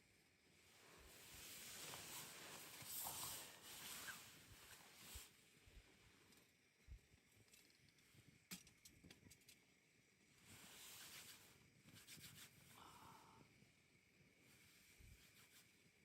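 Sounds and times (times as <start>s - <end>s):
soft hiss: 0.0s - 16.0s.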